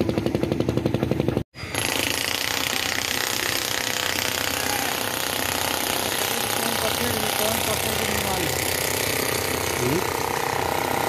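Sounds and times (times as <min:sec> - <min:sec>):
rapid mechanical clatter: 0:00.0 - 0:11.0.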